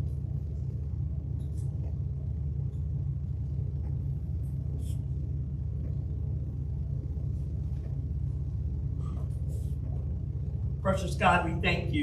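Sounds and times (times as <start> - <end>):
low rumble with hum: 0.0 - 12.0.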